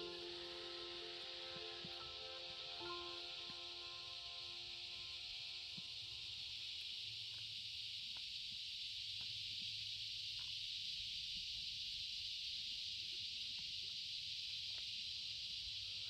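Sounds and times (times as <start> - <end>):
faint ticks: 0.0 - 16.0
high-pitched insect chorus: 0.0 - 16.0.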